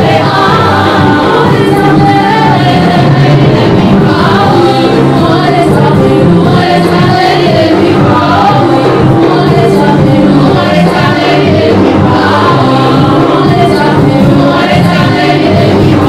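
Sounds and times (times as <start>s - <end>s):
keyboard accompaniment: 0.0s - 16.0s
women singing into microphones: 0.0s - 16.0s.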